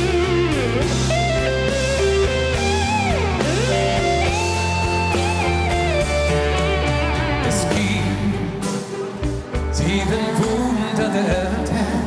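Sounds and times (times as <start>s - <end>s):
bass line: 0.0s - 12.0s
guitar melody: 0.0s - 12.0s
live band playing: 0.0s - 12.0s.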